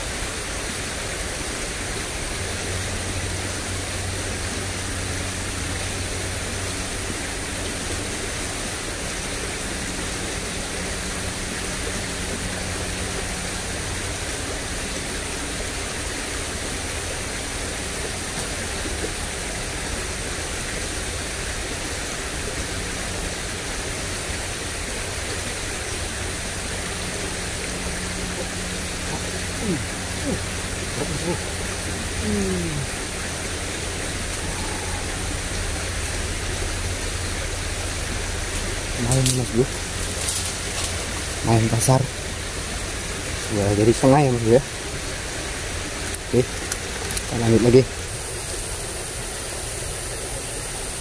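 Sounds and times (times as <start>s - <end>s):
water flowing in a ditch: 0.0s - 51.0s.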